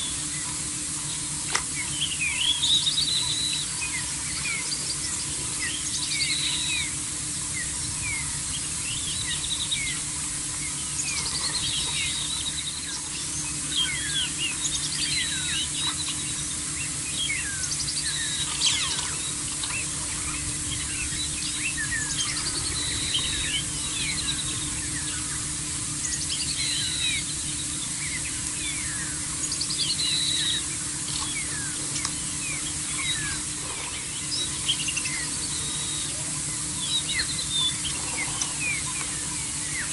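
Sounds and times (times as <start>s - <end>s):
steady low hum: 0.0s - 39.9s
wild birds chirping and whistling: 0.0s - 39.9s.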